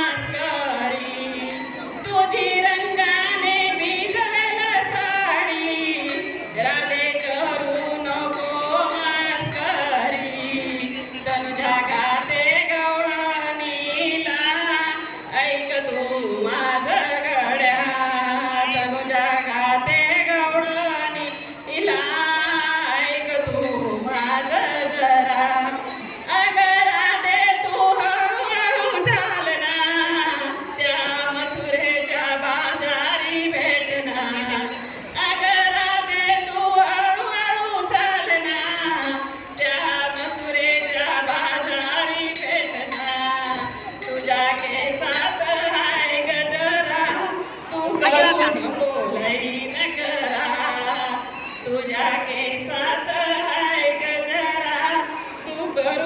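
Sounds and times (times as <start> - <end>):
rhythmic percussion beat: 0.0 - 56.0
woman singing folk song: 0.0 - 56.0.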